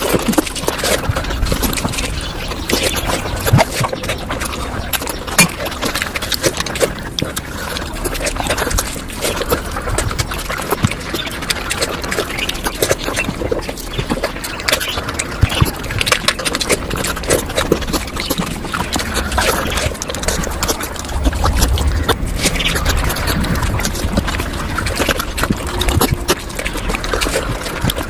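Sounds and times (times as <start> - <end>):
wet chewing and slurping: 0.0 - 28.0.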